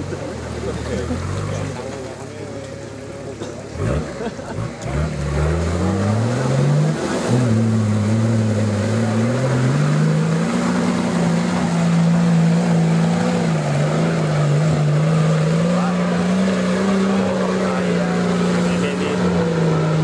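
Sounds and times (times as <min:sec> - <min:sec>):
engine revving hard under load: 0:03.7 - 0:20.0.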